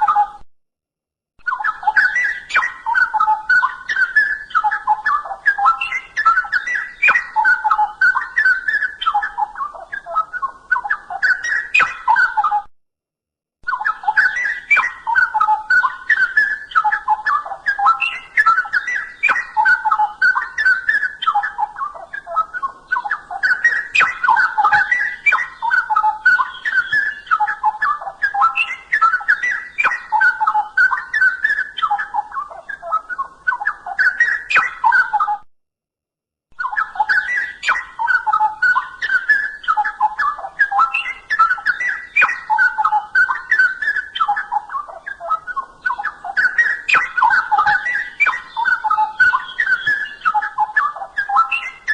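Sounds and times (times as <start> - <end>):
bird warbling song: 0.0 - 0.4, 1.4 - 12.7, 13.6 - 35.4, 36.6 - 51.9.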